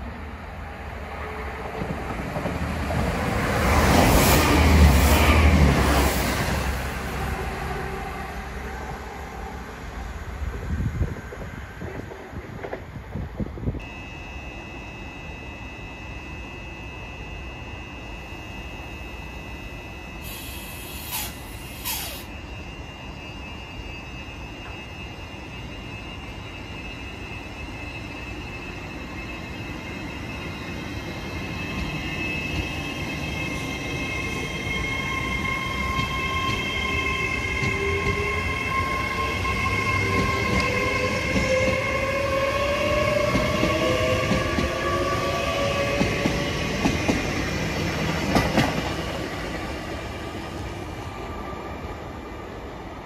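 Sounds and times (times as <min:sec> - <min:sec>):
train engine whine: 0:00.0 - 0:53.0.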